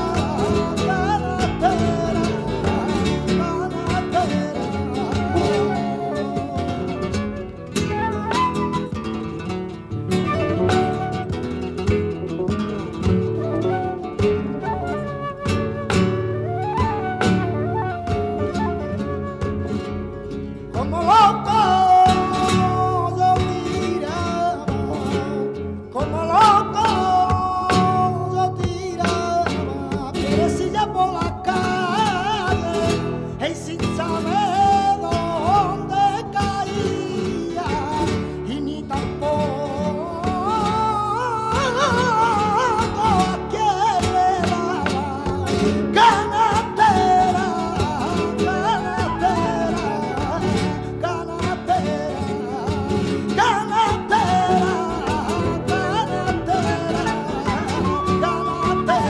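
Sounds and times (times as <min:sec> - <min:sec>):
flamenco guitars: 0:00.0 - 0:59.0
man singing: 0:00.0 - 0:59.0.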